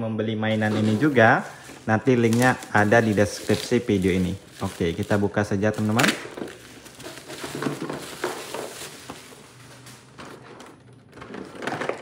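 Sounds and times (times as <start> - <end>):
bubble wrap crackling and snapping: 0.5 - 12.0.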